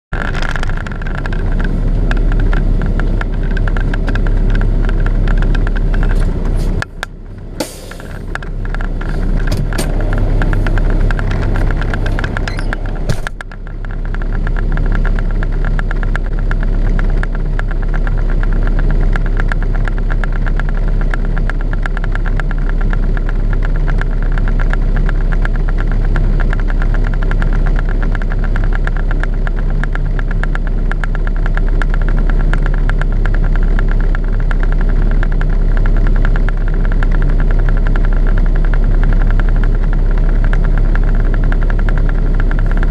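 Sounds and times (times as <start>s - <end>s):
diesel truck engine idling: 0.6s - 42.9s.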